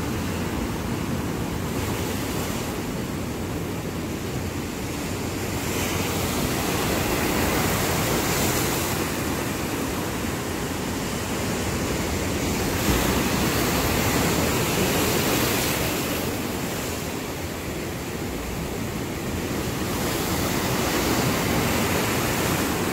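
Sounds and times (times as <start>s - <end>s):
waves breaking on shore: 0.0s - 22.9s.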